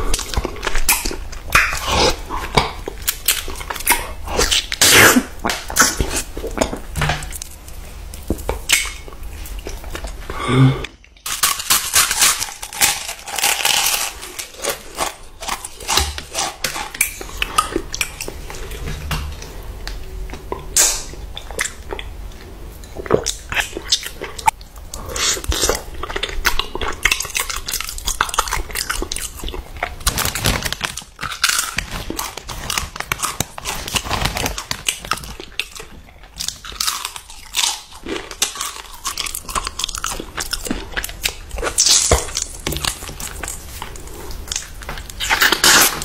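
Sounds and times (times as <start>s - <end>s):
crunchy chewing: 0.0s - 46.0s.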